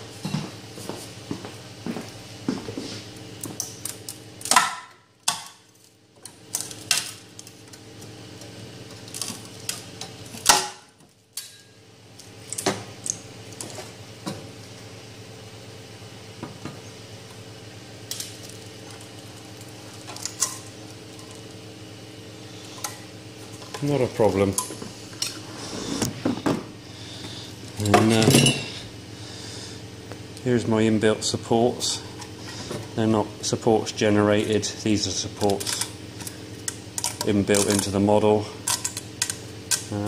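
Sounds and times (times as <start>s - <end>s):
printer fans humming: 0.0s - 40.0s.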